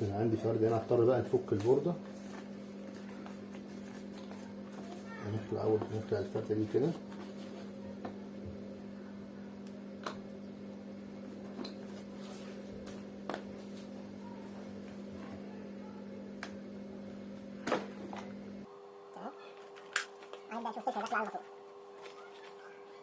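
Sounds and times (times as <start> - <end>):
steady low hum: 0.0 - 22.2.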